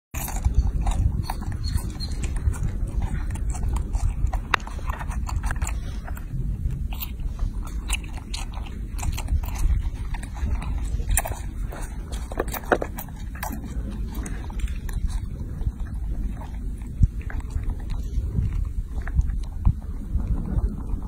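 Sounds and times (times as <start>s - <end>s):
low rumble: 0.2s - 21.0s
monkey chewing wet smacks: 0.2s - 21.0s.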